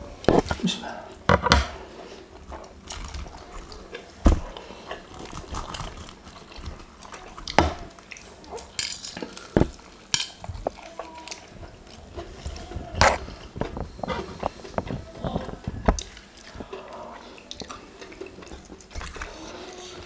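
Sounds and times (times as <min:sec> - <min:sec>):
wet slurping and chewing: 0:01.8 - 0:20.0.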